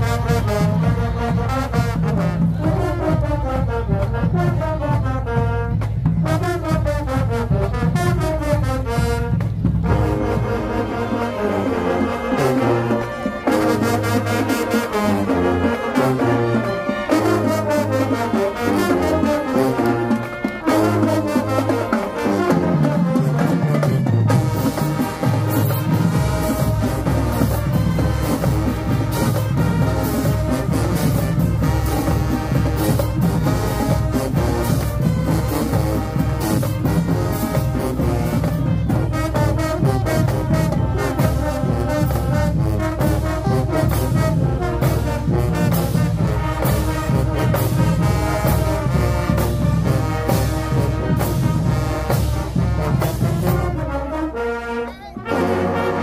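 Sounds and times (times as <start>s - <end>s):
driving drums: 0.0s - 54.3s
marching band brass: 0.0s - 56.0s.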